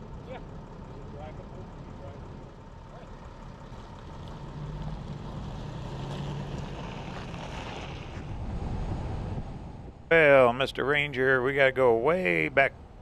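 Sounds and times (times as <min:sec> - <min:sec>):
vehicle engine running: 0:00.0 - 0:11.1.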